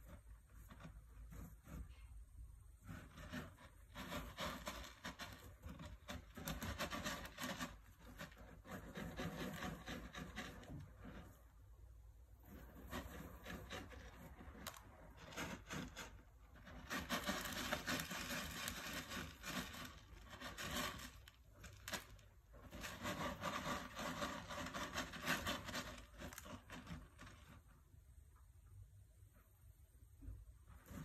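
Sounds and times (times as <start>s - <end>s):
kitten scratching cat litter: 0.0s - 28.2s, 29.0s - 31.0s.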